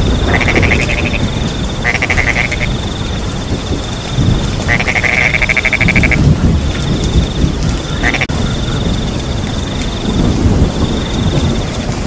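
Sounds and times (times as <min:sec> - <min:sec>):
frogs trilling: 0:00.0 - 0:11.7
crickets chirping: 0:00.0 - 0:12.0
rain falling: 0:00.0 - 0:12.0.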